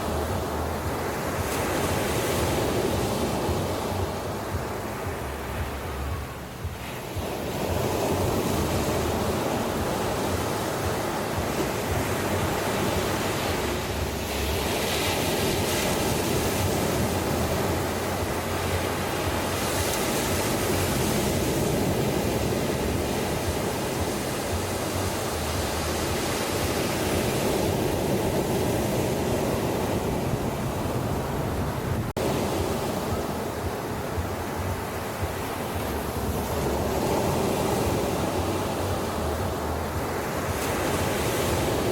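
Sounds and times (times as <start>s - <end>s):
sea waves breaking on beach: 0.0s - 41.9s.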